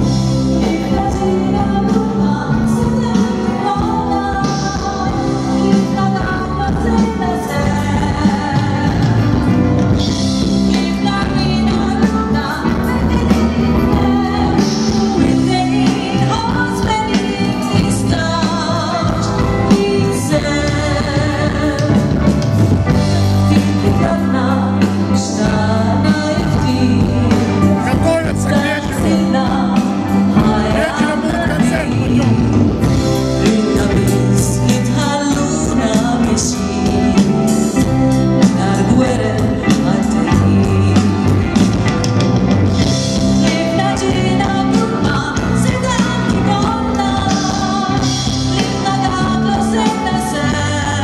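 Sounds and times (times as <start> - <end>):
woman singing: 0.0 - 42.0, 42.8 - 51.0
electric guitar: 0.0 - 51.0
keyboard: 0.0 - 51.0.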